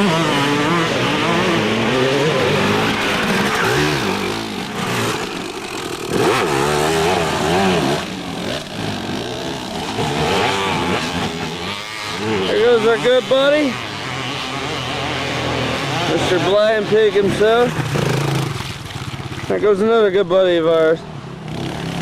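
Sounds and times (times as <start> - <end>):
dirt bikes revving past: 0.0 - 22.0.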